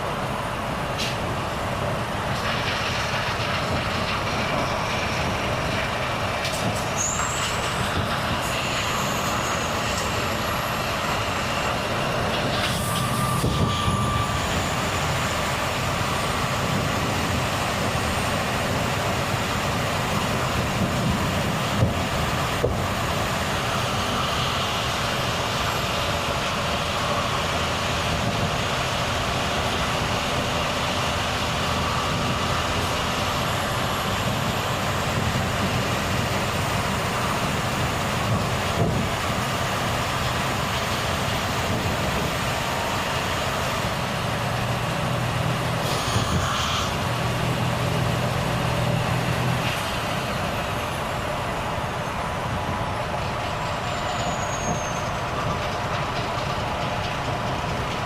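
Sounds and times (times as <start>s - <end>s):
truck diesel engine: 0.0s - 58.0s.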